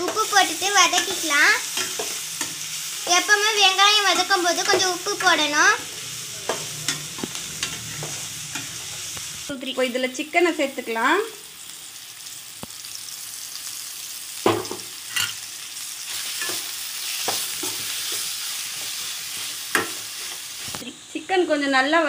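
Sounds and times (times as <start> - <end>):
chicken and onions sizzling: 0.0 - 22.0.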